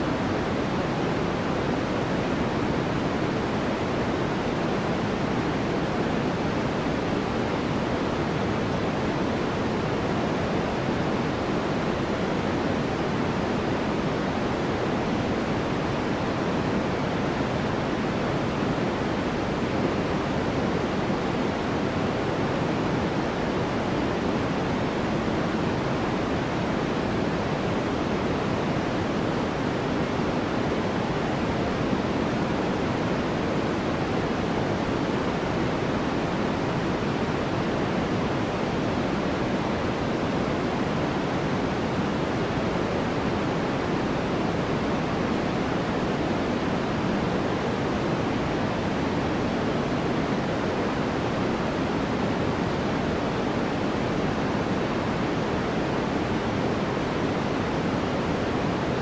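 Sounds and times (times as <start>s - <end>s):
soft white noise hiss: 0.0s - 59.0s.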